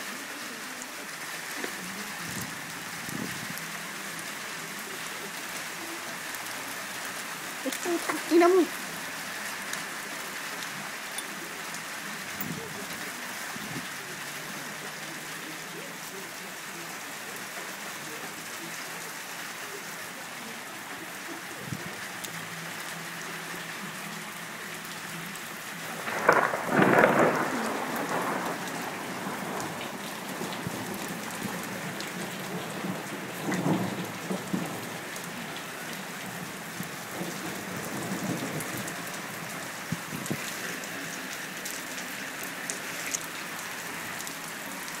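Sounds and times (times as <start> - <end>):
rain and hail pattering: 0.0 - 45.0.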